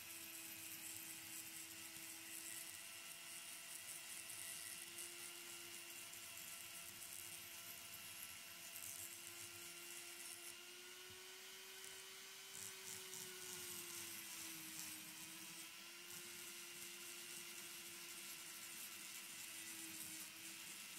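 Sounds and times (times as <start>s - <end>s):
rotary tool grinding stone: 0.0s - 20.9s.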